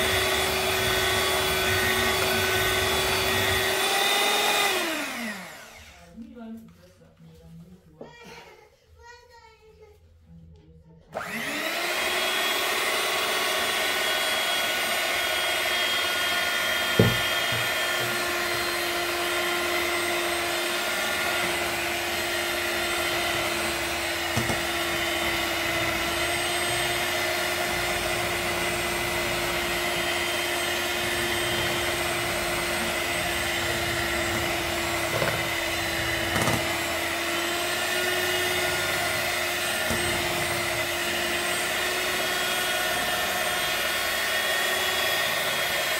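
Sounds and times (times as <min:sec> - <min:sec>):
electric hand mixer whisking: 0:00.0 - 0:06.2, 0:11.1 - 0:45.9.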